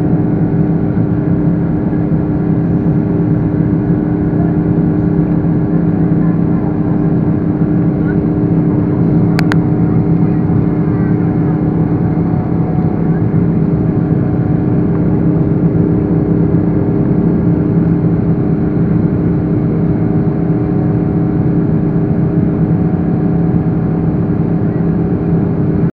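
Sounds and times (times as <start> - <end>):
jet engines droning: 0.0 - 25.9.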